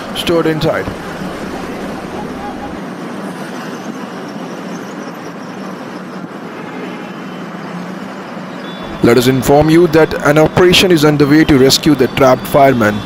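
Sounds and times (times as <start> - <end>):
road traffic hiss: 0.0 - 13.0.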